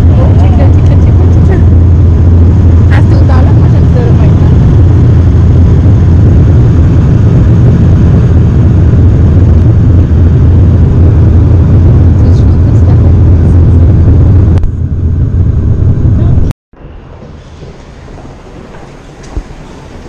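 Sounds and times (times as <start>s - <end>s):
turboprop cabin drone: 0.0s - 19.6s.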